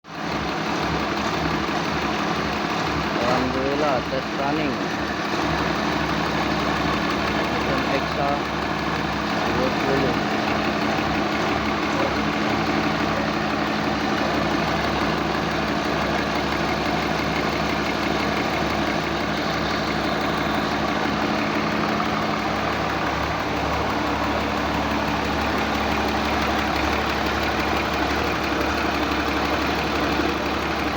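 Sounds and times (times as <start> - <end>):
excavator diesel engine idling: 0.0 - 30.9.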